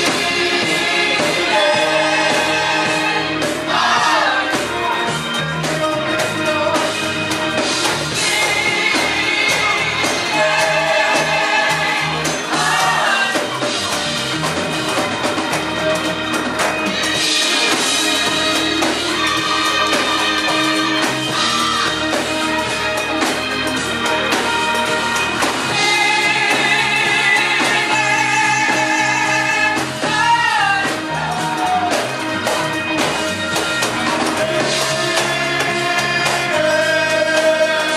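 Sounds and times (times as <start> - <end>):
gospel singing with vibrato: 0.0 - 15.6, 16.8 - 37.9
instrumental accompaniment: 0.0 - 37.9.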